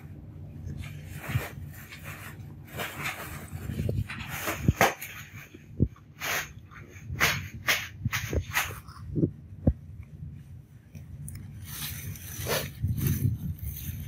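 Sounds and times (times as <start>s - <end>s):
leaves and fruit rustling: 0.5s - 9.2s, 10.8s - 14.0s.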